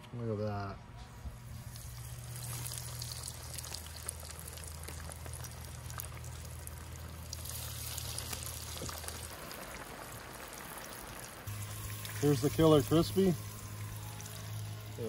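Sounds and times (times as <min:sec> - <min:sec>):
low hum: 0:00.7 - 0:15.0
fish deep-frying in oil: 0:01.3 - 0:15.0.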